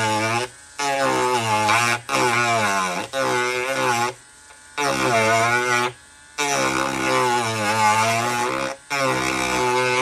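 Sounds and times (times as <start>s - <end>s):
rotary tool grinding plastic: 0.0s - 10.0s.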